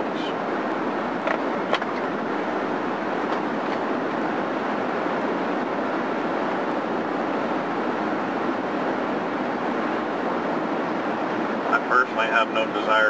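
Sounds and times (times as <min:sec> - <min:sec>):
engine: 0:00.0 - 0:13.0
tyres rushing on road: 0:00.0 - 0:13.0.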